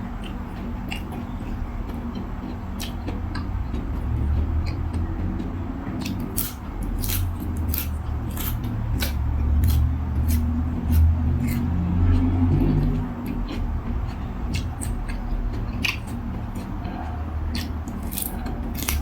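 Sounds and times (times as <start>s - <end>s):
chewing and crunching: 0.0s - 19.0s.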